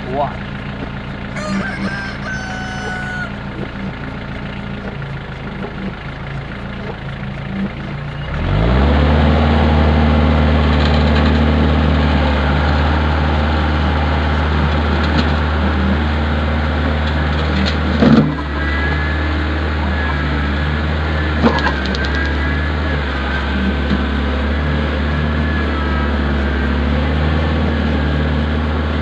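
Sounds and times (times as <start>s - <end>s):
tractor diesel engine revving: 0.0s - 29.0s.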